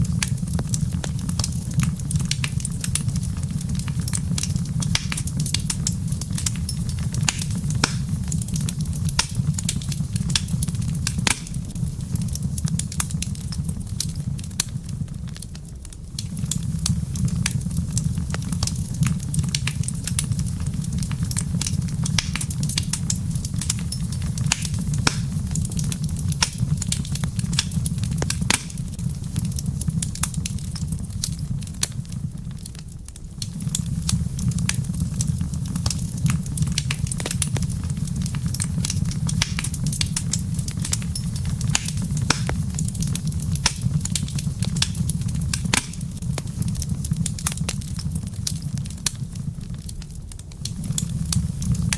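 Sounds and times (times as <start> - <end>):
low steady fire rumble: 0.0 - 51.9
wood fire crackling: 0.0 - 51.9.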